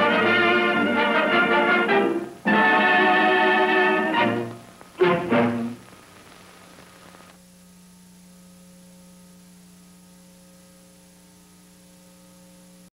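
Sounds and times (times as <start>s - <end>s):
electrical mains hum: 0.0s - 12.9s
tape hiss: 0.0s - 12.9s.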